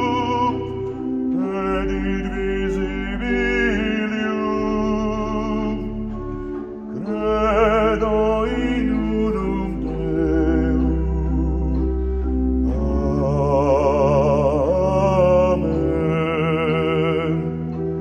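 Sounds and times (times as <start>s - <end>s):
man singing with vibrato: 0.0s - 6.2s, 6.9s - 11.9s, 12.7s - 17.8s
pipe organ chords: 0.0s - 18.0s.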